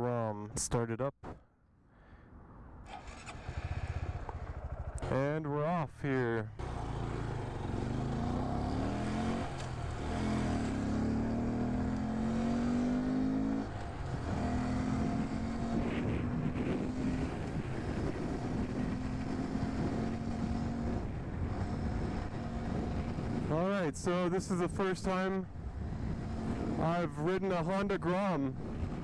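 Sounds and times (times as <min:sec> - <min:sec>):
motorcycle engine accelerating: 0:02.9 - 0:05.4, 0:06.5 - 0:27.9.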